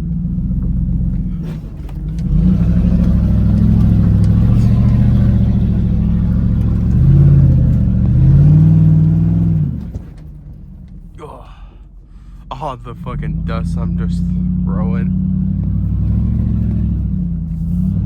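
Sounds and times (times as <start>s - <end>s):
truck engine pulling under load: 0.0s - 18.0s.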